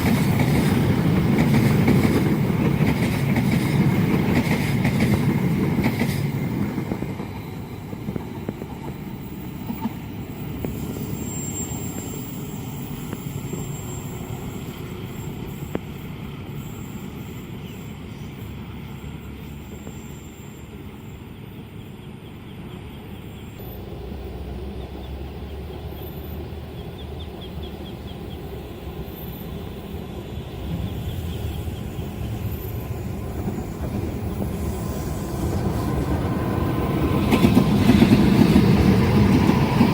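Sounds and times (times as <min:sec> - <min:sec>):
distant rail noise: 0:00.0 - 0:39.9
train passing: 0:00.0 - 0:39.9.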